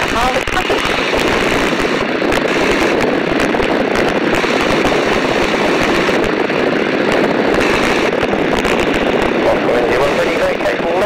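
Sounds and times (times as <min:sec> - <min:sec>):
airplane engine running: 0:00.0 - 0:11.0
slipstream wind rush: 0:00.0 - 0:11.0
wind buffeting microphone: 0:00.0 - 0:11.0.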